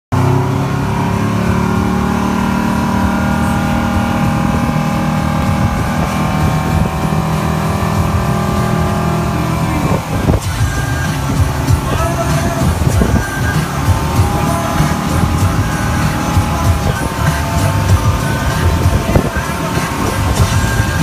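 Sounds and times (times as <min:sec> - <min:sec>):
boat engine running: 0:00.1 - 0:21.0
water rushing in wake: 0:00.1 - 0:21.0.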